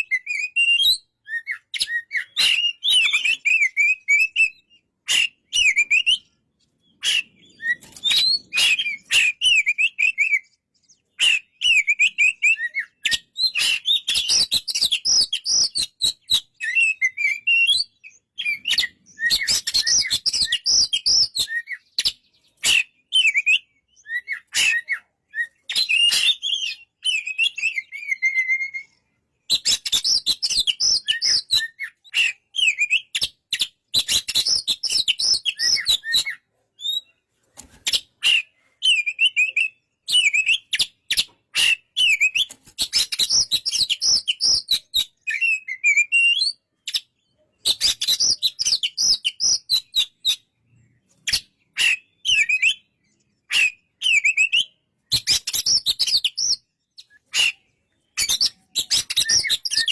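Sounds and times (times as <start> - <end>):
bird singing whistled notes: 0.0 - 37.2, 37.9 - 59.9.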